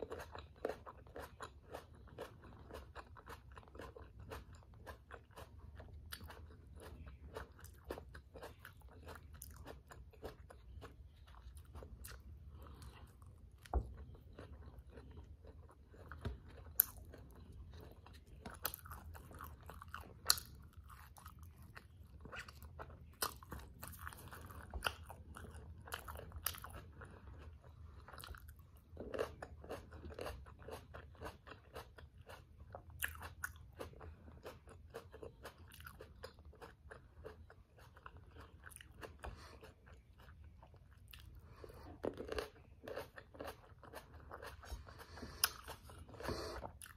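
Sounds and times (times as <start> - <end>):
wet chewing: 0.0 - 46.9.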